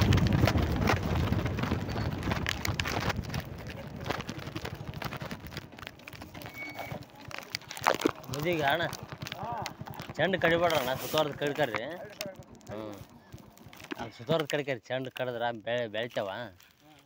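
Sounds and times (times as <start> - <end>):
low rumble: 0.0 - 14.3
footsteps walking: 0.0 - 14.7.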